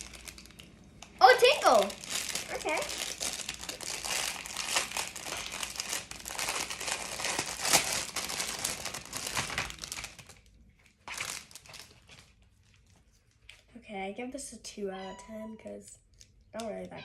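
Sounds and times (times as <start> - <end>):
wrapping crinkling: 0.0 - 13.7.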